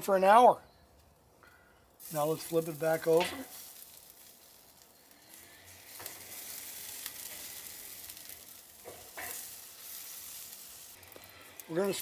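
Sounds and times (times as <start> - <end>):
ribs sizzling on a grate: 1.9 - 12.0.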